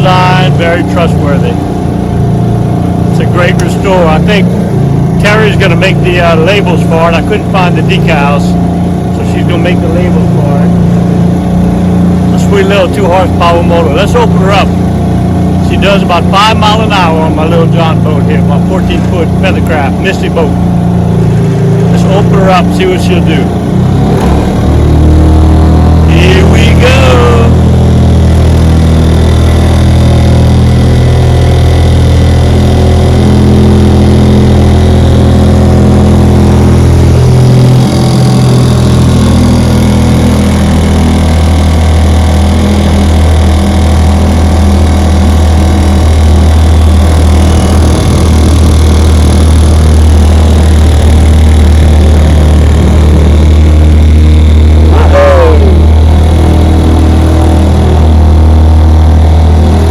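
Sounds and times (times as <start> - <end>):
outboard motor droning: 0.0 - 59.9.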